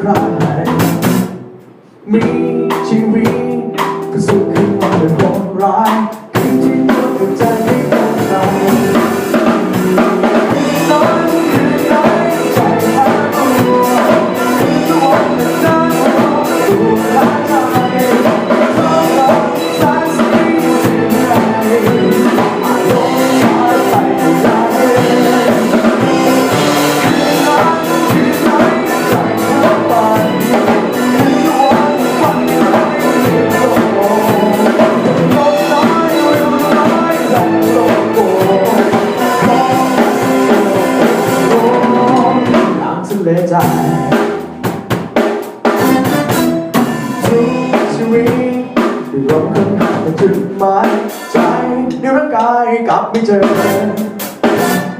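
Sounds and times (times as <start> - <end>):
drum kit beat: 0.0 - 54.9
instruments playing melody: 6.4 - 52.0.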